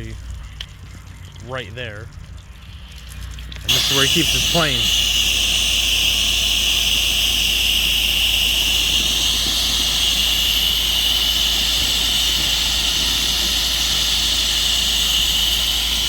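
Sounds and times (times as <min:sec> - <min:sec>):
pressure washer spraying water: 0:02.5 - 0:16.0.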